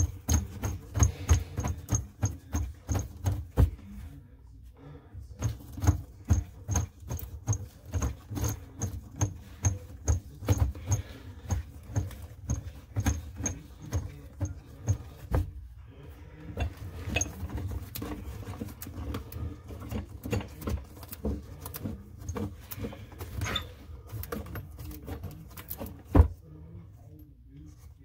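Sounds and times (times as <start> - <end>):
tools knocking on plumbing: 0.0 - 3.8, 5.4 - 15.6, 16.4 - 26.4.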